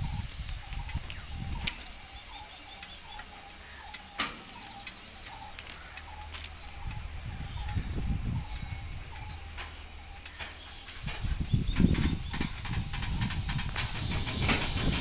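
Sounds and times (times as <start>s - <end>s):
birds chirping: 0.0s - 15.0s
fire crackling and popping: 0.0s - 15.0s.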